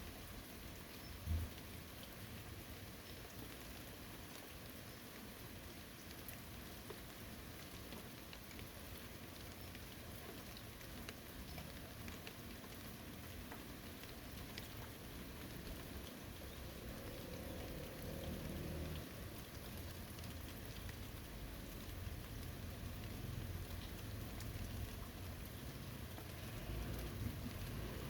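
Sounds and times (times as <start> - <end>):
rain falling on forest: 0.0 - 28.0
raindrops ticking: 0.0 - 28.0.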